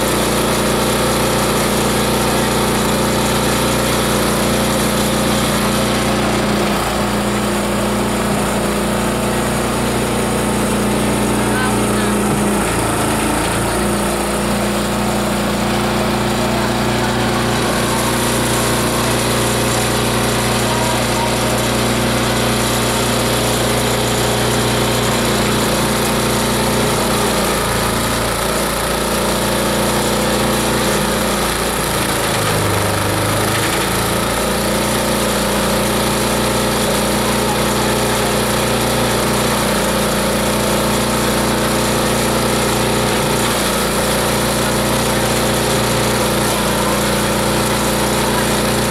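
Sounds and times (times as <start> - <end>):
shredder grinding: 0.0 - 48.9.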